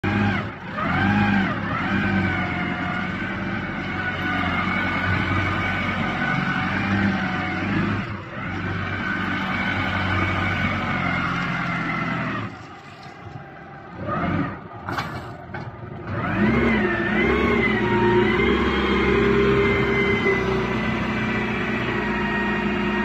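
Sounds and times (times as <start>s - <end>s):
forklift diesel engine running: 0.0s - 23.0s.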